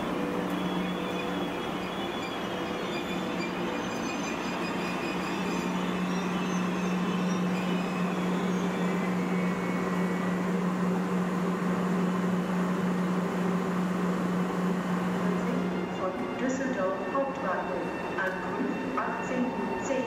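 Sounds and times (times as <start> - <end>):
station hall noise: 0.0 - 20.0
train electrical hum: 0.0 - 20.0.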